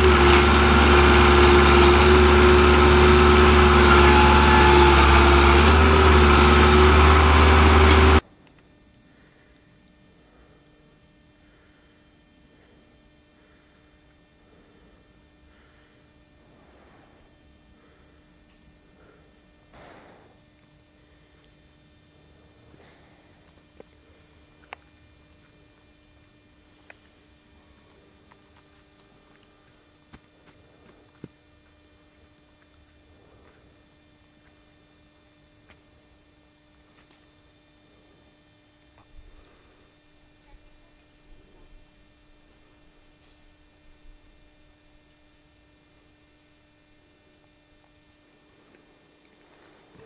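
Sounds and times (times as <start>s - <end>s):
faint electrical hum: 8.2s - 50.0s.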